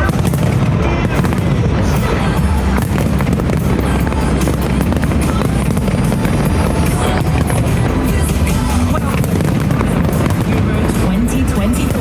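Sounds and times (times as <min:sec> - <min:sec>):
fireworks bangs and crackles: 0:00.0 - 0:12.0
loud music: 0:00.0 - 0:12.0.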